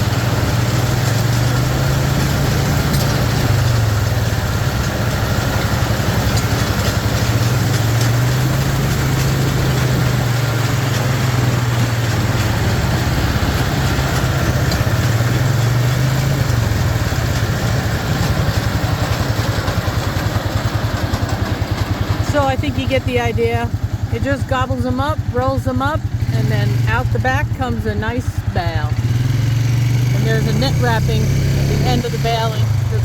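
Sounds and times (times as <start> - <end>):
baler mechanical clatter: 0.0 - 33.0
tractor engine under load: 0.0 - 33.0.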